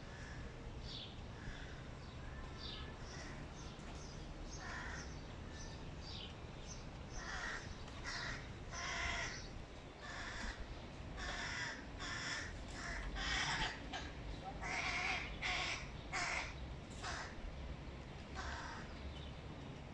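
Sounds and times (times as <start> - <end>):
crow fledglings begging calls: 0.1 - 6.2, 7.1 - 17.5, 18.3 - 19.3.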